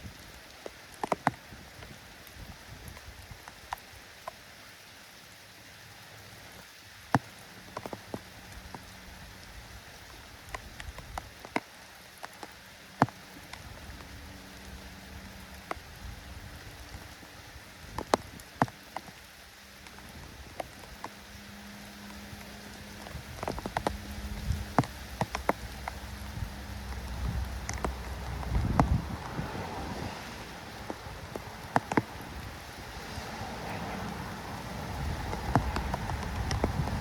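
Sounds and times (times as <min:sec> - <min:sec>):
steady drizzle: 0:00.0 - 0:37.0.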